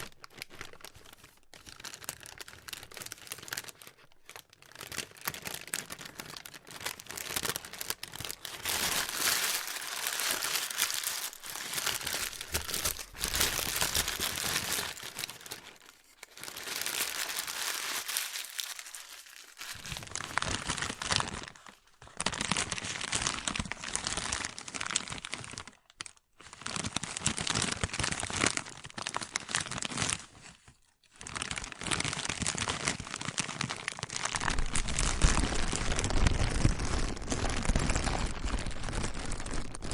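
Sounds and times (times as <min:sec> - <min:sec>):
plastic crinkling: 0:00.0 - 0:39.9.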